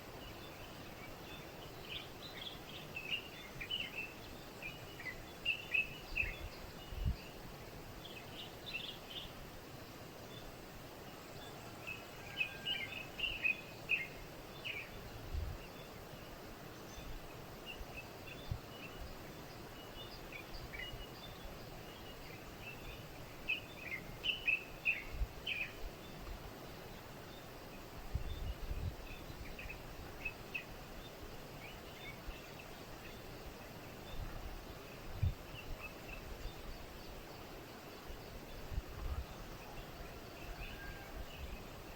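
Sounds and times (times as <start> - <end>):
outdoor background hiss: 0.0 - 41.9.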